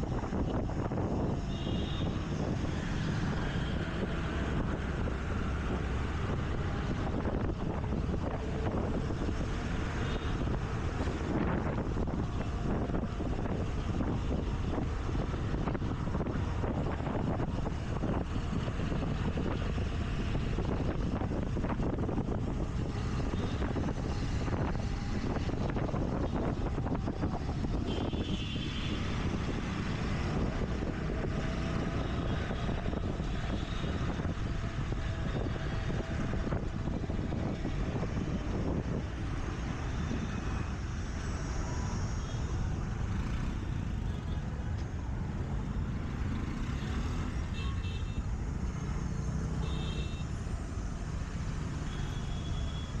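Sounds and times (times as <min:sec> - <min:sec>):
hum of surrounding vehicles: 0:00.0 - 0:53.0
wind and road noise: 0:00.0 - 0:53.0.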